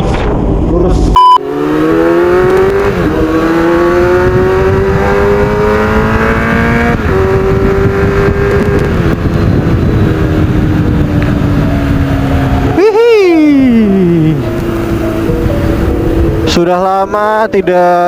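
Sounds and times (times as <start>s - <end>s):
motorcycle engine accelerating: 0.7s - 18.0s.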